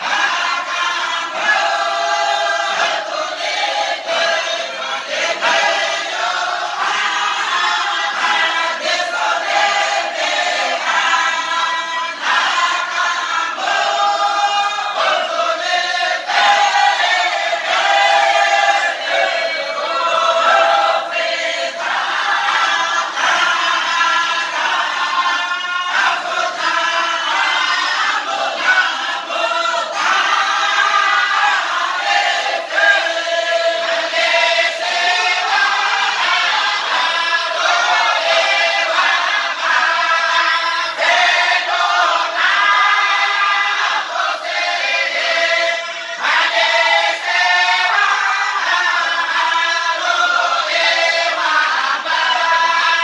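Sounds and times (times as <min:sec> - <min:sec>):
men singing in chorus: 0:00.0 - 0:53.0.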